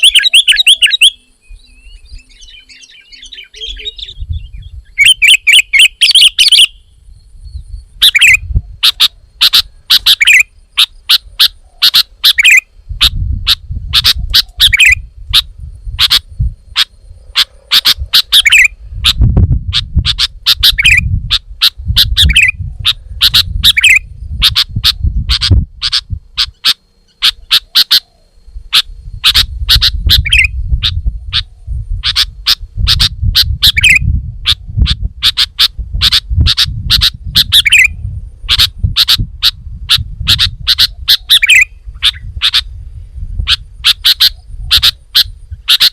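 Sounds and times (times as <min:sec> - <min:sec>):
bulbul chirping: 0:00.0 - 0:42.7, 0:43.4 - 0:45.9.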